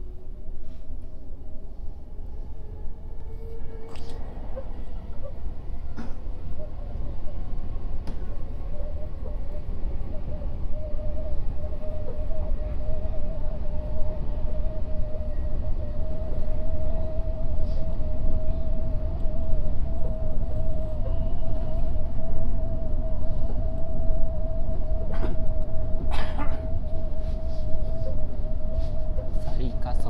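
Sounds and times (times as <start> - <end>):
constant hum: 0.0 - 30.0
train wheels rumbling on rails: 2.0 - 30.0.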